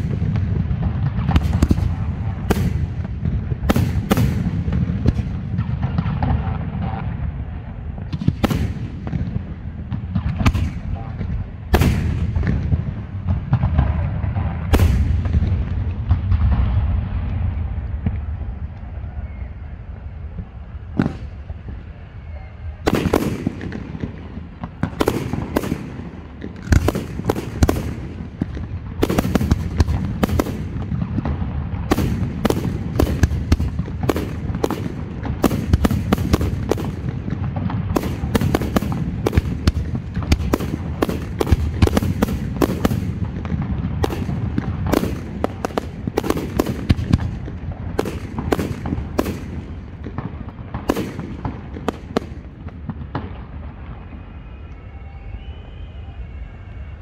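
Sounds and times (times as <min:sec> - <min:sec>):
fireworks bangs: 0:00.0 - 0:54.8.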